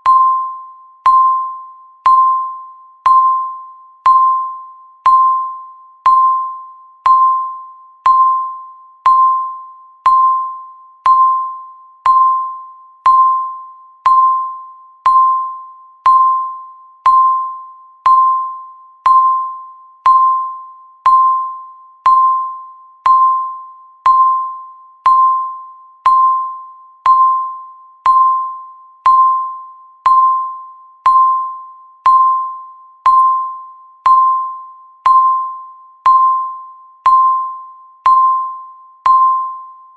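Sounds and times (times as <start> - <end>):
bell-like timer ding: 0.0 - 39.9.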